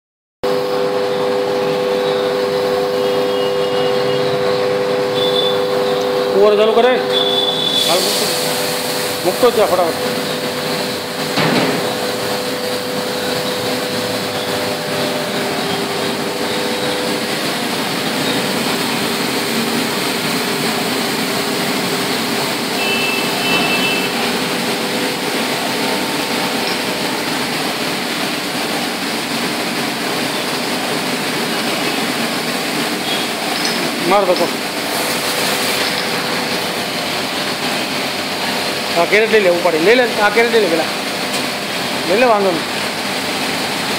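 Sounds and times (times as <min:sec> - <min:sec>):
bottle washing machine running: 0:00.4 - 0:43.9.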